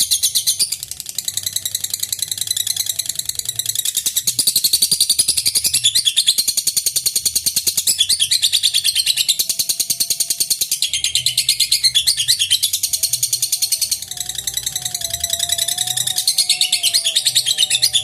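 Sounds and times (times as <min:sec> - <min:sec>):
lovebird chattering trill: 0:00.0 - 0:18.0.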